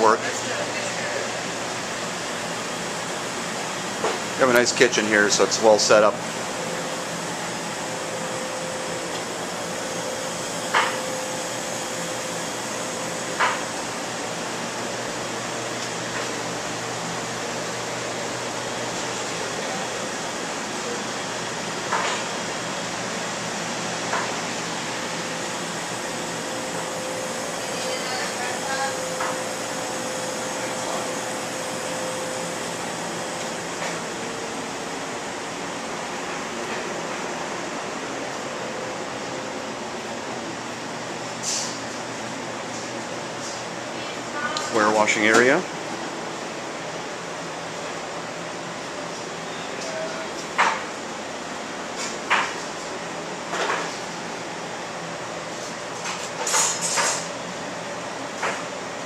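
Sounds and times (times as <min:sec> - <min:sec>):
ventilation rushing noise: 0:00.0 - 0:49.5.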